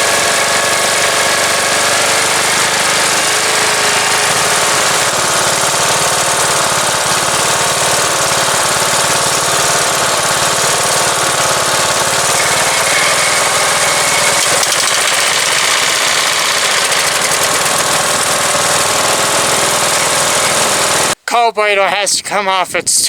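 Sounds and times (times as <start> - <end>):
small engine idling: 0.0 - 21.2.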